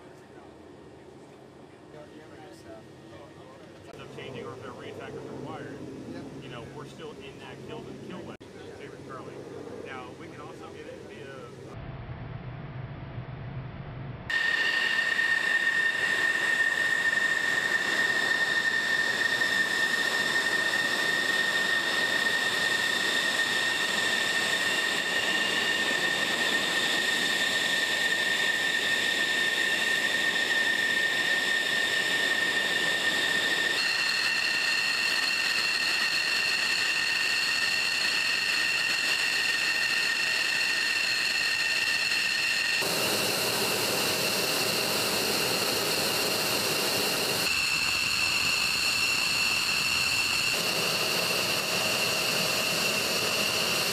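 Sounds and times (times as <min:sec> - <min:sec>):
jet engine whine and hiss: 0:00.0 - 0:11.8, 0:14.3 - 0:53.9.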